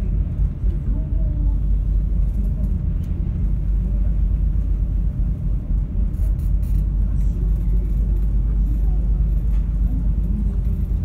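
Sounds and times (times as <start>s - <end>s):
ferry engines rumbling: 0.0s - 11.0s.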